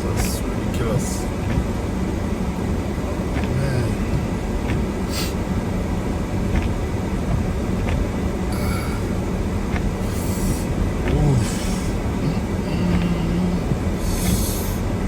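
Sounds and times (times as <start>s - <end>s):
vehicle rumbling through snow: 0.0s - 15.0s.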